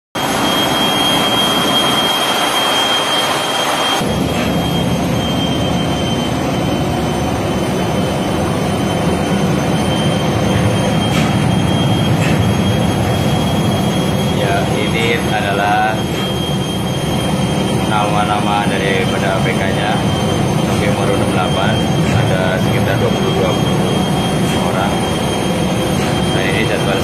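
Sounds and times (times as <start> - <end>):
loud machinery noise: 0.2 - 27.0
thin high whine: 0.2 - 27.0.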